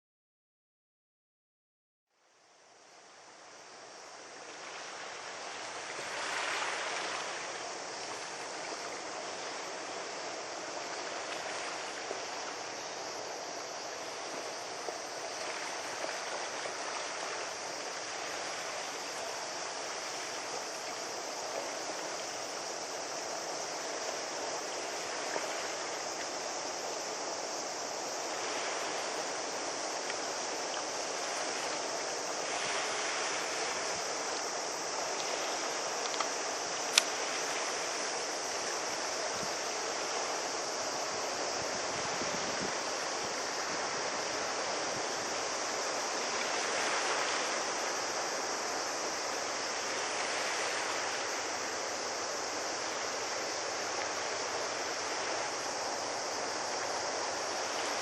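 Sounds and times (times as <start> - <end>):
water rushing along shore: 2.3 - 58.0.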